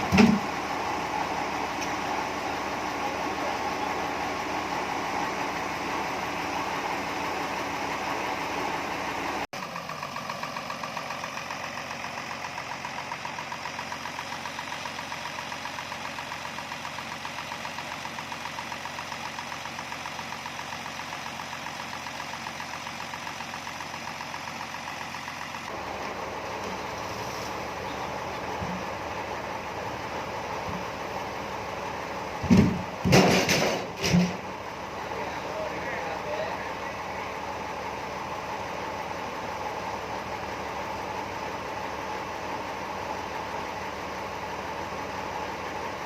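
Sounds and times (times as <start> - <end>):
sawmill machinery drone: 0.0 - 46.0.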